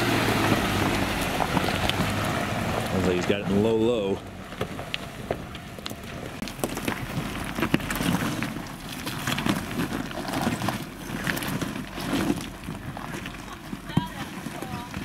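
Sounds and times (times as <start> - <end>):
faint low engine hum: 0.0 - 15.0
footsteps on loose stone: 0.0 - 15.0
tyres crunching over rocks: 0.0 - 15.0.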